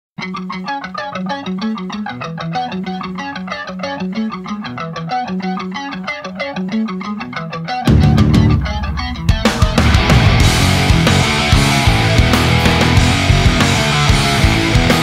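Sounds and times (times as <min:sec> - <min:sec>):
electric guitar picking: 0:00.2 - 0:15.0.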